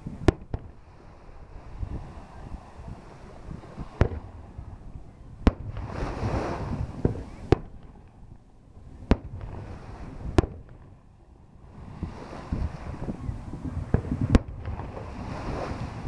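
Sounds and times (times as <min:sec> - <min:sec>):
fireworks bangs: 0:00.0 - 0:00.9, 0:02.0 - 0:08.2, 0:08.8 - 0:11.0, 0:12.0 - 0:16.0.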